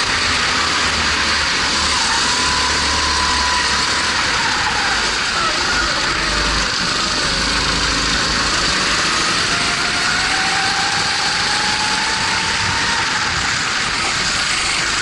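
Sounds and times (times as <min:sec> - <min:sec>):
kart engine running hard: 0:00.0 - 0:15.0
wind and track noise: 0:00.0 - 0:15.0.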